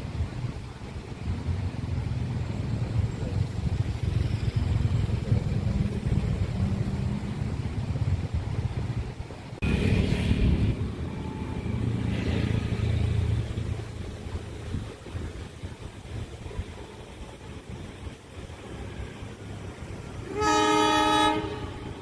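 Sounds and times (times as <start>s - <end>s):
diesel train engine rumble: 0.0s - 22.0s.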